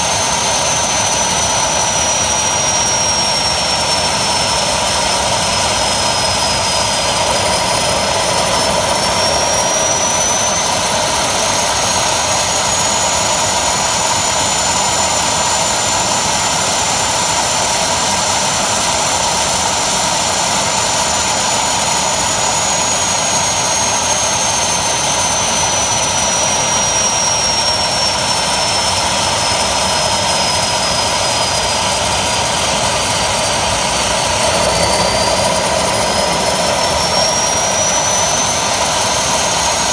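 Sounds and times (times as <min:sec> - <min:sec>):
turbojet engine rush with turbine whine: 0:00.0 - 0:39.9.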